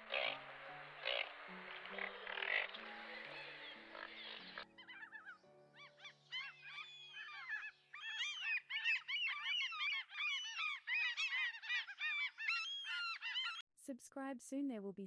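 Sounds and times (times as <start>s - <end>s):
geese honking: 0.0s - 13.6s.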